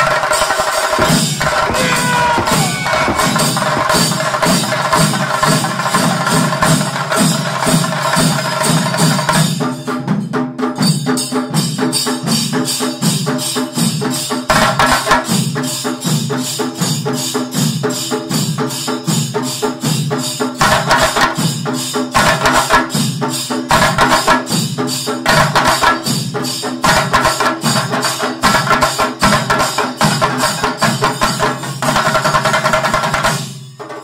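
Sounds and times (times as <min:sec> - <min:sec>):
fast percussion beat: 0:00.0 - 0:34.0.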